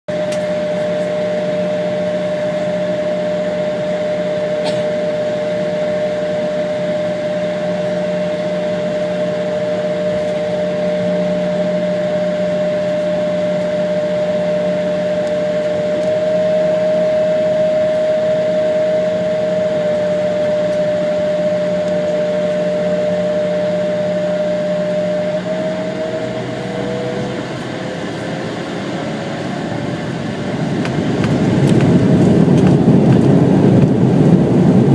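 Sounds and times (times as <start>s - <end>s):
jet engine whine: 0.1s - 34.9s
jet engines idling: 0.1s - 34.9s.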